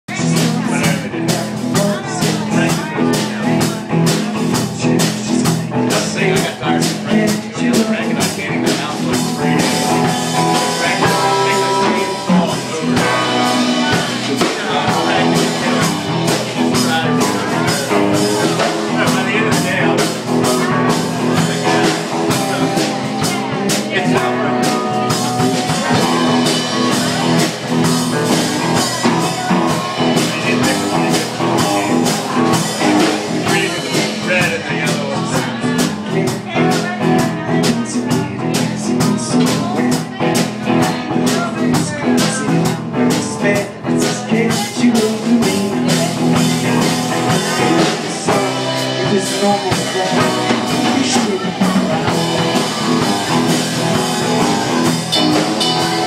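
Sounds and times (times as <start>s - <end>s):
drums and cymbal hits: 0.1s - 56.0s
electric guitar: 0.1s - 56.0s.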